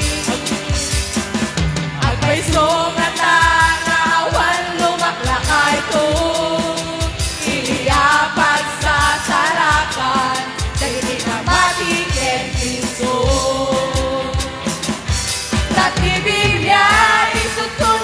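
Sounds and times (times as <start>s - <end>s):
lead vocalist singing: 0.0s - 1.1s, 1.8s - 15.0s, 15.6s - 18.0s
praise band playing: 0.0s - 18.0s
steady drum beat: 0.0s - 18.0s.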